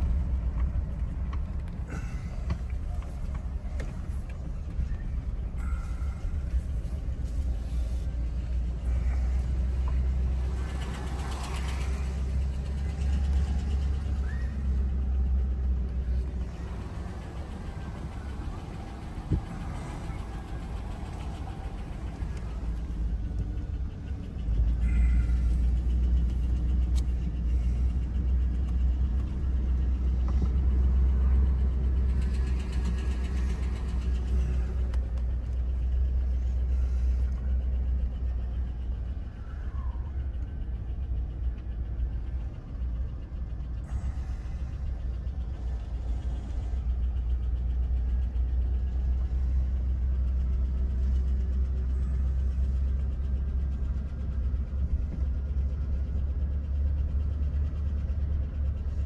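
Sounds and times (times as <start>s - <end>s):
vehicle engine and tyres rumbling: 0.0s - 59.0s.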